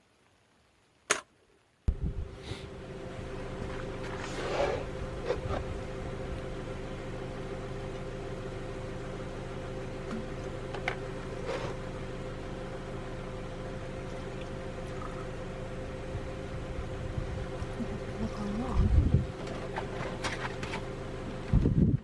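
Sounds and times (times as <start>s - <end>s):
machine hum: 1.6s - 22.0s.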